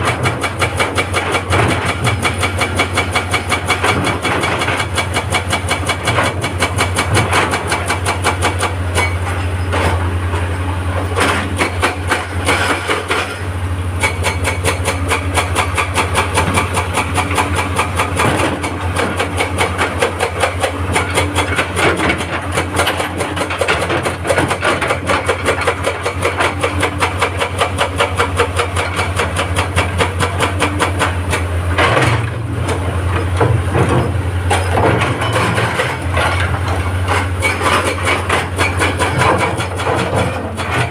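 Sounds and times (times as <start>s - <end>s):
diesel engine drone: 0.0s - 40.9s
hydraulic breaker hammering rock: 0.0s - 40.9s.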